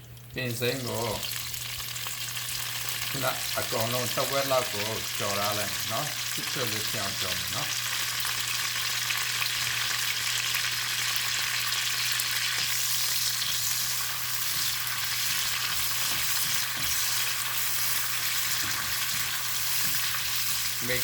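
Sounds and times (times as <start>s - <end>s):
leaves sizzling in hot oil: 0.4s - 21.0s.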